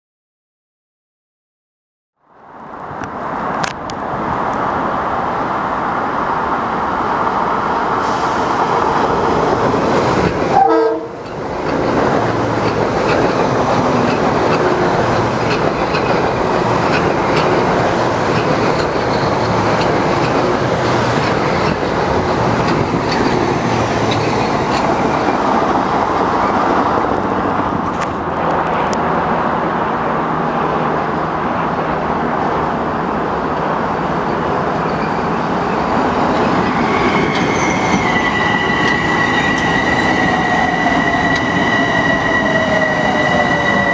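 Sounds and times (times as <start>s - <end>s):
train wheels on rail: 2.7s - 43.9s.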